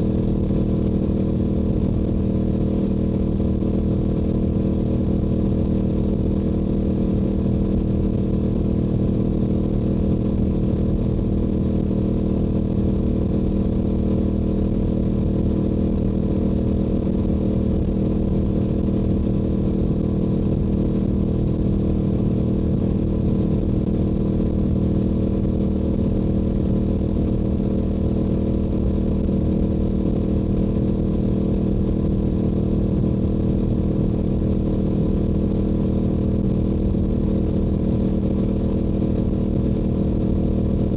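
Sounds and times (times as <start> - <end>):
motorcycle engine cruising drone: 0.0 - 40.9.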